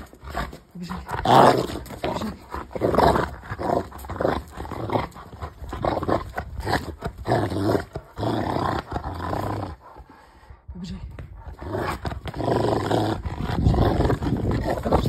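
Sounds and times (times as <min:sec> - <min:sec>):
dog growling: 0:00.0 - 0:10.4, 0:11.4 - 0:15.0.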